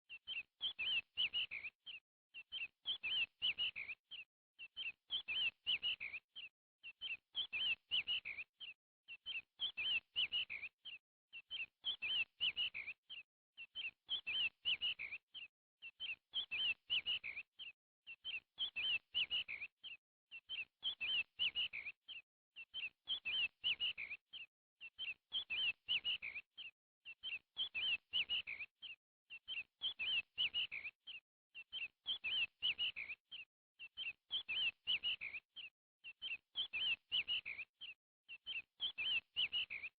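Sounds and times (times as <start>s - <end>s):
small bird chirping: 0.1s - 39.9s.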